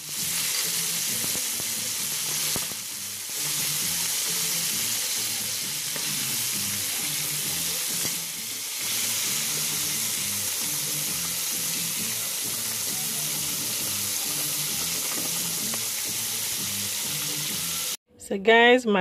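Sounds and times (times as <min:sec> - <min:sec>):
chicken frying in hot oil: 0:00.0 - 0:18.0.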